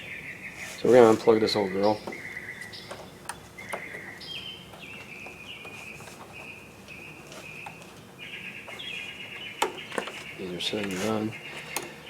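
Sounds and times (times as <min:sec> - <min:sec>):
bird singing whistled notes: 0:00.0 - 0:11.8.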